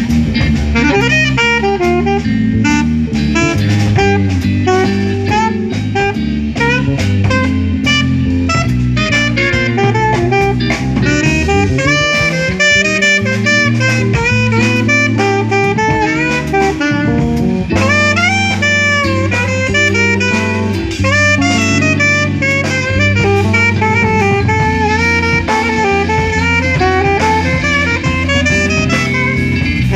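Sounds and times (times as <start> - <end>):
drum kit with cymbals: 0.0 - 29.9
guitar: 0.0 - 29.9
saxophone melody: 0.0 - 29.9
trumpet: 0.0 - 29.9
walking bass: 0.0 - 29.9.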